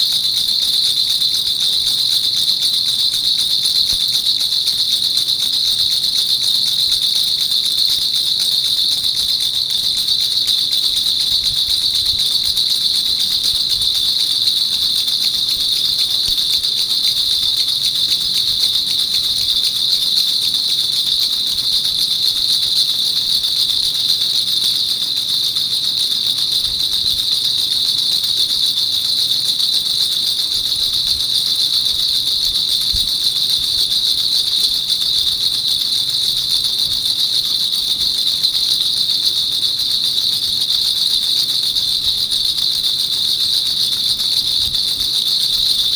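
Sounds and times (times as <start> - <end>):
baby rattle shaken rapidly: 0.0 - 45.9.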